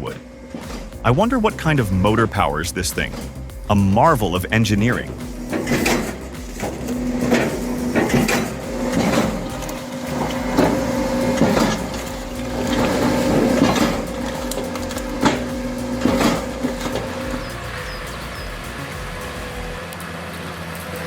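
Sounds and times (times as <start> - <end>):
firewood processor humming: 0.0 - 21.0.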